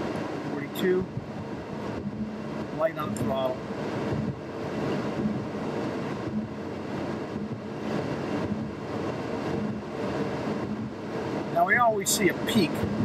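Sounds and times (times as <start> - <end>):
air conditioning blowing: 0.0 - 13.0
car tyres and engine hum: 0.0 - 13.0.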